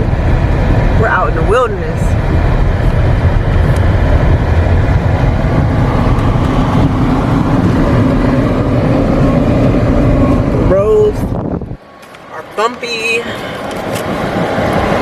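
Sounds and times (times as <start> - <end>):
engine hum: 0.0 - 15.0
tyres rumbling on bumpy road: 0.0 - 15.0.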